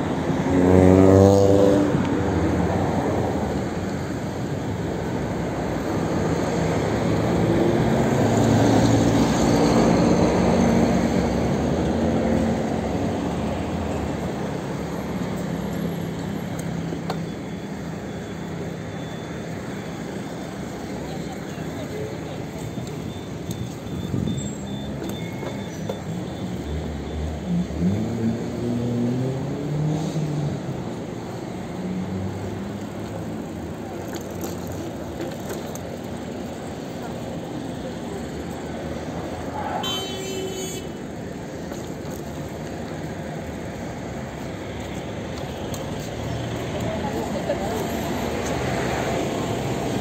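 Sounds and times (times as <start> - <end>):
street traffic: 0.0 - 50.0.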